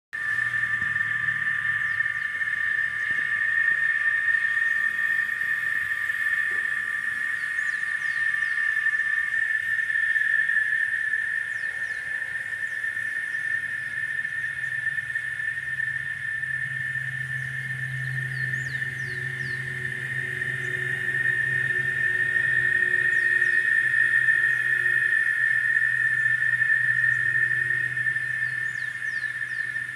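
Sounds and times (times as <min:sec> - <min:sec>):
cicada high-pitched whine: 0:00.1 - 0:29.9
lower-pitched cicada tone: 0:00.1 - 0:29.9.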